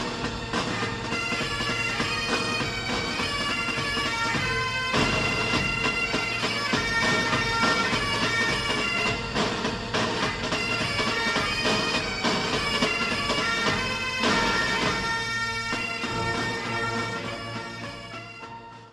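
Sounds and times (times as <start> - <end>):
bagpipe music: 0.0 - 18.9.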